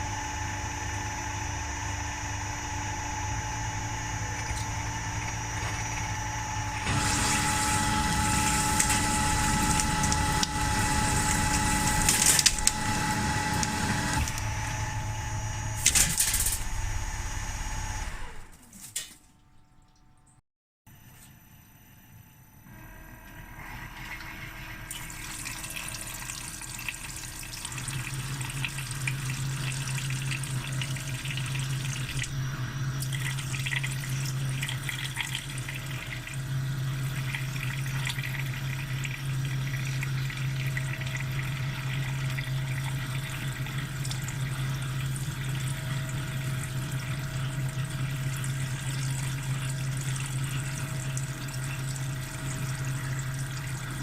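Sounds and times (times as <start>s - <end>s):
milling machine humming: 0.0s - 18.5s, 21.0s - 54.0s.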